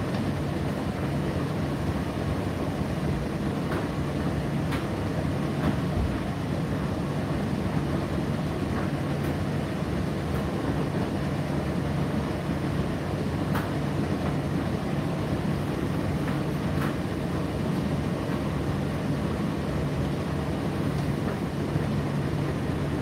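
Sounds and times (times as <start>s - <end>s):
tumble dryer rumble and hum: 0.0s - 23.0s.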